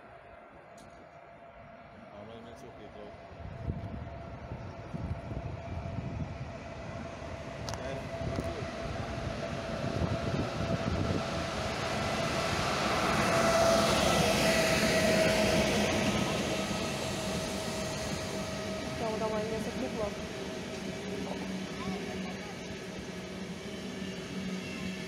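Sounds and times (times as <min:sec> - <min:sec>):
passenger train passing on rails: 0:00.0 - 0:25.0
steady whine: 0:02.7 - 0:25.0.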